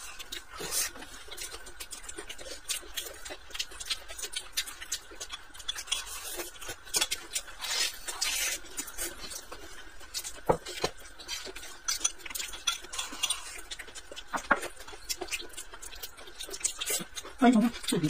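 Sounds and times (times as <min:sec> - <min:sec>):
chewing and mouth smacks: 0:00.0 - 0:18.0.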